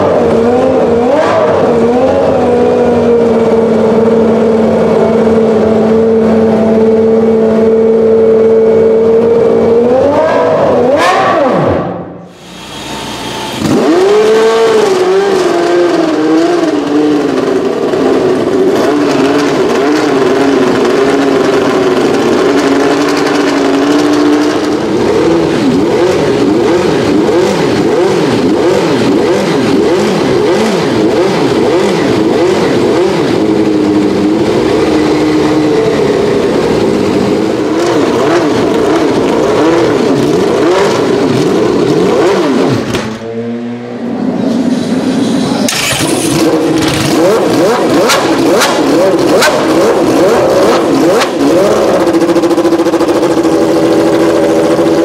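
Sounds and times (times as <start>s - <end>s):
race car engine revving: 0.0s - 55.0s
race car engine idling: 1.6s - 9.9s, 12.0s - 42.1s, 44.0s - 55.0s.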